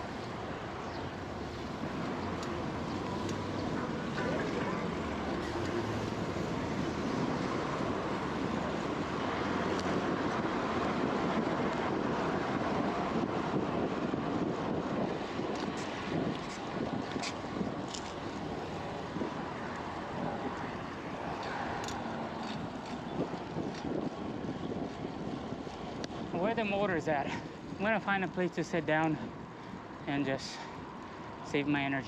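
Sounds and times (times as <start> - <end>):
wind buffeting microphone: 0.0 - 31.4
road and traffic noise: 0.0 - 32.0.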